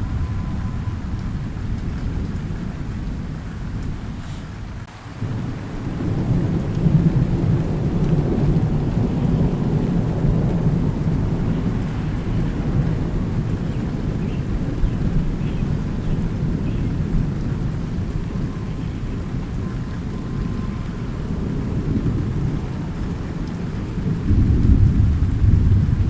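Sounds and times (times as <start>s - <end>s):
low rolling thunder: 0.0s - 26.0s
steady rain: 0.0s - 26.0s.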